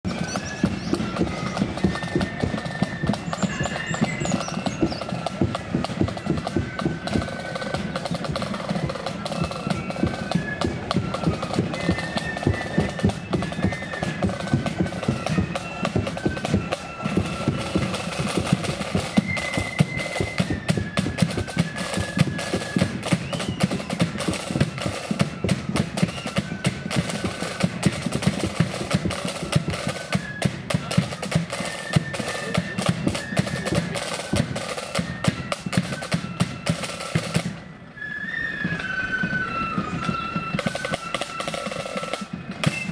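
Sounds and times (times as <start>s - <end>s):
rapid snare drumming: 0.0s - 37.6s, 40.3s - 42.9s
flutes playing march melody: 0.0s - 42.9s.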